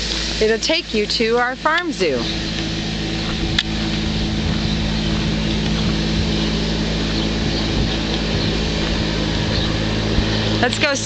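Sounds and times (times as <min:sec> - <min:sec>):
road and wind noise: 0:00.0 - 0:11.0
vehicle engine humming: 0:00.0 - 0:11.0.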